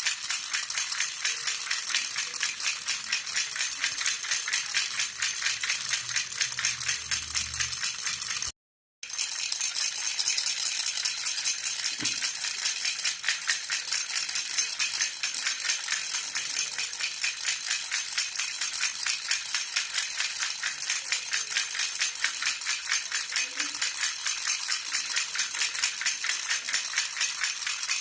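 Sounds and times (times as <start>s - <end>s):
baby rattle jingling: 0.0s - 8.5s, 9.1s - 28.0s.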